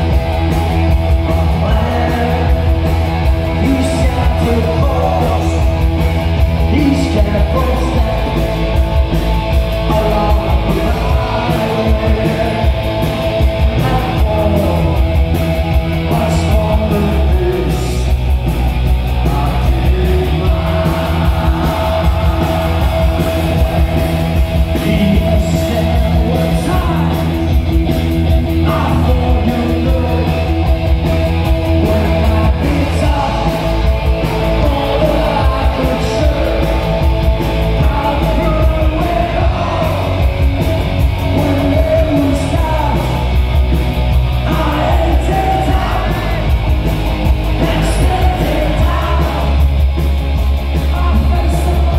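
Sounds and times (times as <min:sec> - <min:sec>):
bass guitar: 0:00.0 - 0:51.9
distorted electric guitar: 0:00.0 - 0:51.9
drums: 0:00.0 - 0:51.9
male singer belting vocals: 0:00.0 - 0:51.9.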